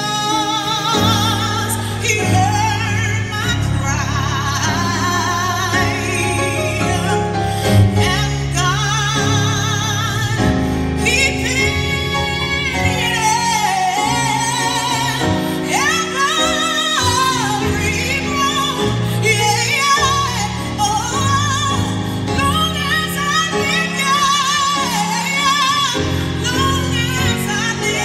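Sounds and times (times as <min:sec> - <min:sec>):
piano chords: 0:00.0 - 0:28.0
woman singing gospel ballad: 0:00.0 - 0:28.0.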